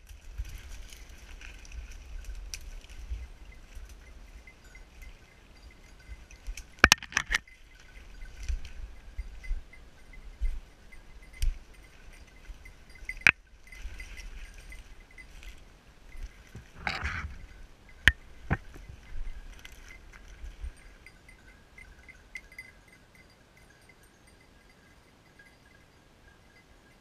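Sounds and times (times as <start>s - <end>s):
branches rustling: 0.0s - 22.9s
dog collar bell tinkling: 0.6s - 27.0s.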